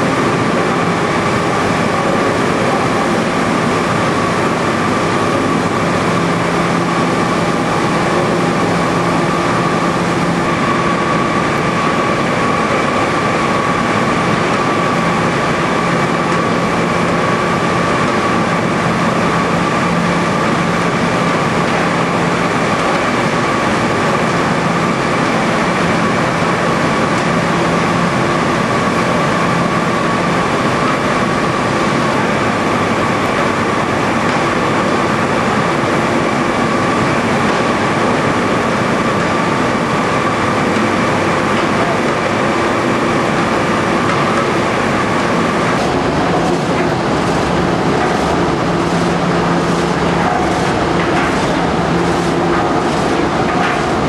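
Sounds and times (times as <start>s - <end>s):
machinery rushing din: 0.0s - 54.0s.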